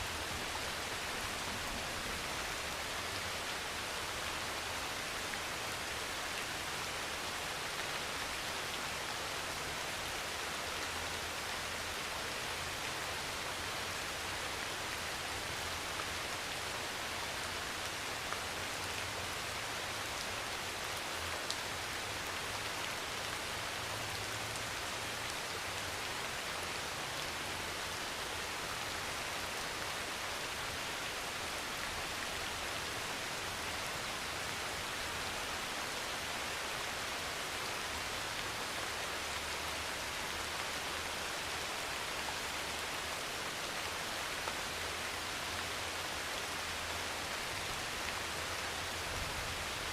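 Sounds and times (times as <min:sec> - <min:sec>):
heavy rain on a metal roof: 0:00.0 - 0:49.9.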